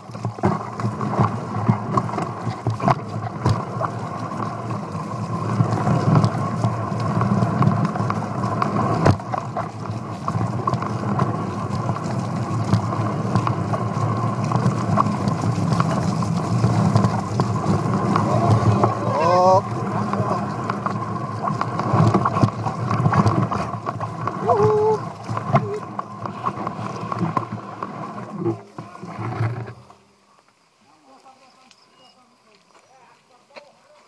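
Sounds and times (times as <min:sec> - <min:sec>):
wheels knocking over bumps: 0:00.0 - 0:30.1
bike rattling on dirt trail: 0:00.0 - 0:30.2.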